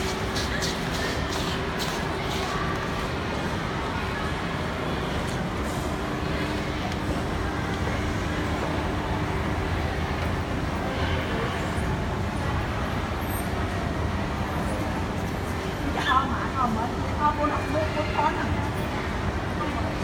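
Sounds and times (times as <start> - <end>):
shopping mall background din: 0.0 - 20.0.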